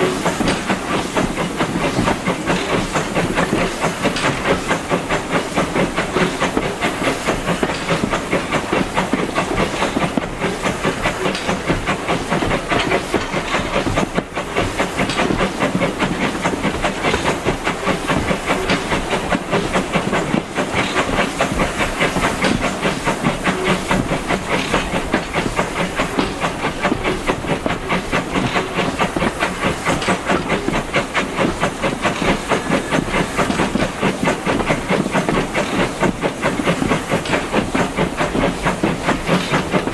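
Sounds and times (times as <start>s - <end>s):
steam hissing: 0.0s - 39.9s
steam locomotive chuffing: 0.0s - 39.9s.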